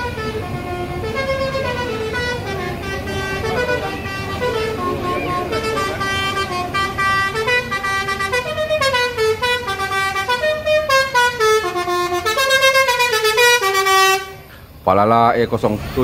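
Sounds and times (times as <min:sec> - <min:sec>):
multi-tone bus horn tune: 0:00.0 - 0:14.6
bus engine running: 0:00.0 - 0:16.0.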